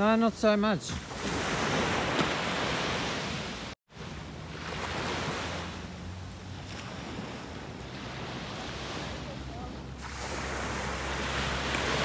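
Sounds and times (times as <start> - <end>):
small waves washing up shore: 0.9 - 12.0.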